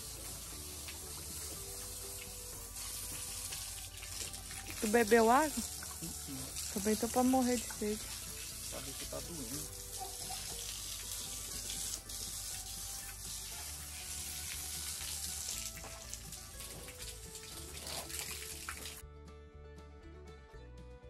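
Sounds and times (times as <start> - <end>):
hose spraying water on concrete: 0.0 - 19.0
background music: 0.0 - 21.0.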